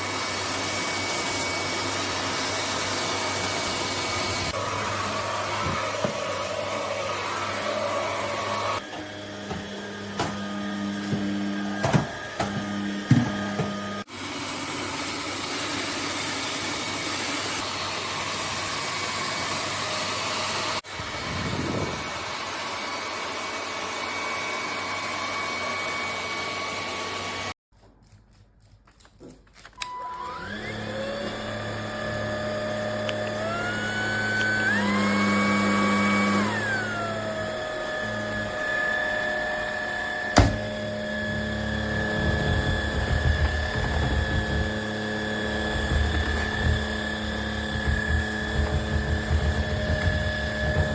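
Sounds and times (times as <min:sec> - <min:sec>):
stick vacuum running: 0:00.0 - 0:27.5, 0:29.8 - 0:50.9.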